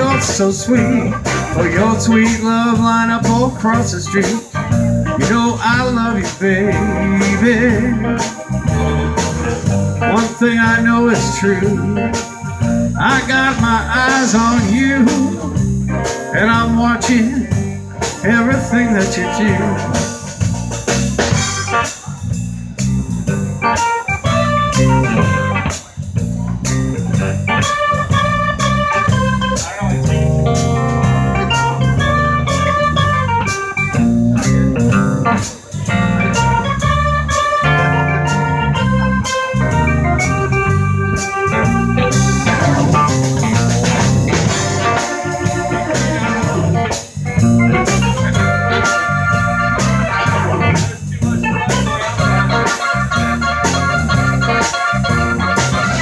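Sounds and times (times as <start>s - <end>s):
bass guitar: 0.0s - 56.0s
drum kit beat: 0.0s - 56.0s
electric guitar: 0.0s - 56.0s
keyboard organ: 0.0s - 56.0s.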